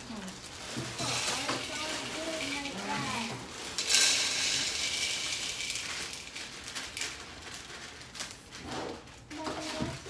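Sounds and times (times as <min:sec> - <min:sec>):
dry cereal pouring into bowls: 0:00.0 - 0:10.0
plastic bags crinkling: 0:00.0 - 0:10.0.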